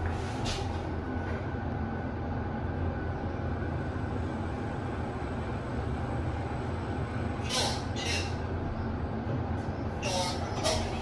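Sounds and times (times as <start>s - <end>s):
lift hum and rumble: 0.0s - 11.0s.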